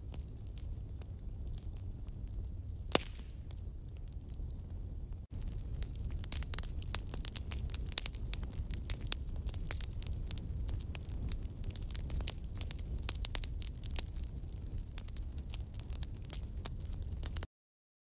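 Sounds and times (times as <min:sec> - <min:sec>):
low gas flame rumble: 0:00.0 - 0:17.4
curry simmering with crackles and pops: 0:00.0 - 0:17.5.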